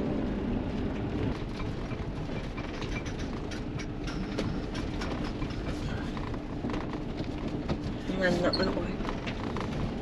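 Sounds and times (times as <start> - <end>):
motorhome engine running: 0.0 - 10.0
rattles and knocks from the ride: 0.8 - 10.0.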